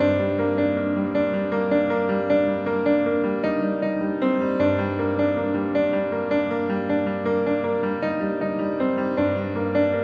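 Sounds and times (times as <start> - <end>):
piano background music: 0.0 - 10.0.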